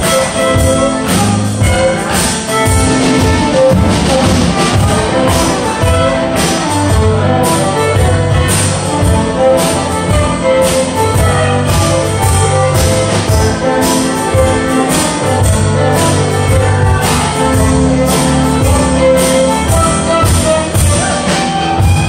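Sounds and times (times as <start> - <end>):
fiddle tune: 0.0 - 22.0
keyboard accompaniment: 0.0 - 22.0
percussion beat: 0.0 - 22.0.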